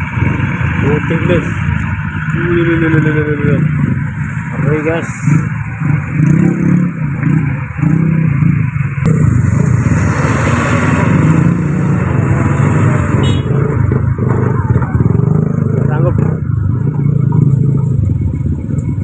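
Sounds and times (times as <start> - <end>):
road and wind rush: 0.0 - 19.0
vehicle engine droning: 0.0 - 19.0.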